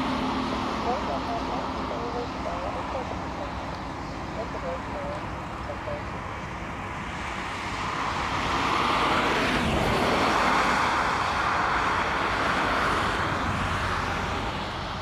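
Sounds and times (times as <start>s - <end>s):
engine passing by: 0.0s - 15.0s.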